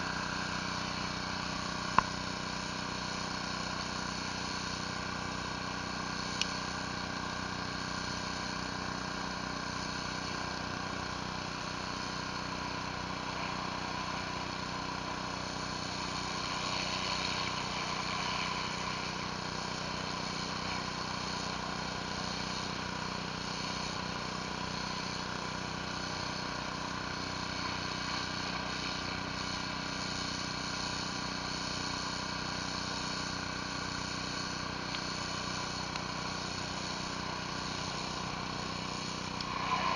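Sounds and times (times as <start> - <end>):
pressure washer engine running: 0.0 - 39.9
water spraying on concrete: 0.0 - 39.9.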